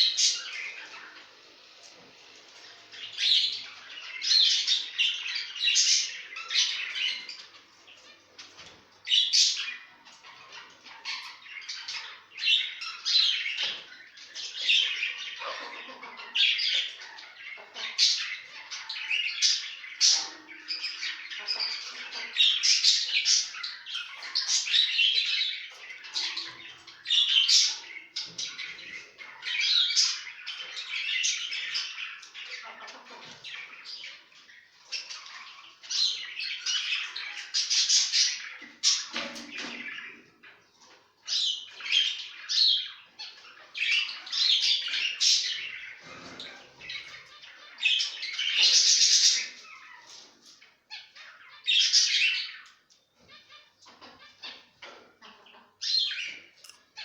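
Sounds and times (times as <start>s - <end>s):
finches chirping and squawking: 0.0s - 57.0s.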